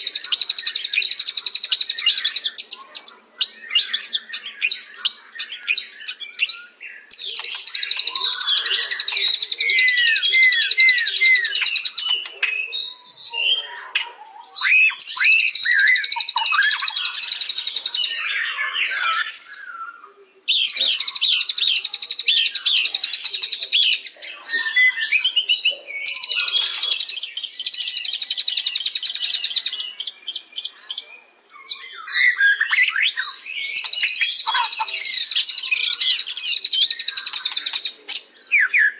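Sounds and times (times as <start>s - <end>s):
bird whistled phrases: 0.0s - 38.9s.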